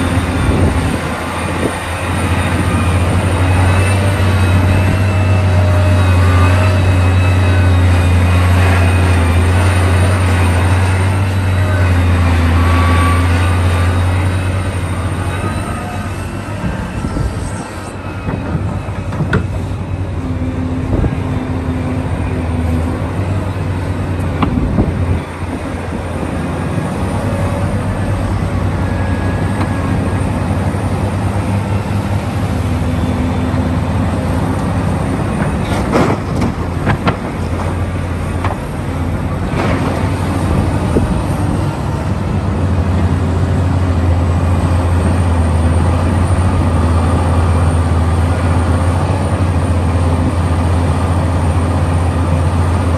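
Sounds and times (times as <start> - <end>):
excavator diesel engine drone: 0.0 - 52.9.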